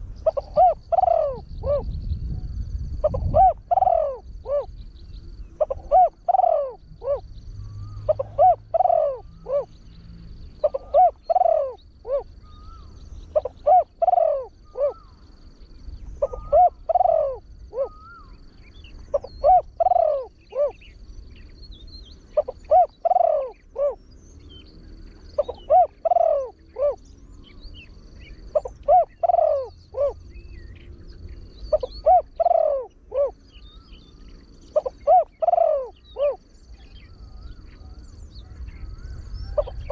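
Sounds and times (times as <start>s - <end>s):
dove cooing: 0.0s - 21.5s, 22.2s - 24.0s, 25.2s - 27.6s, 28.2s - 30.6s, 31.6s - 39.9s.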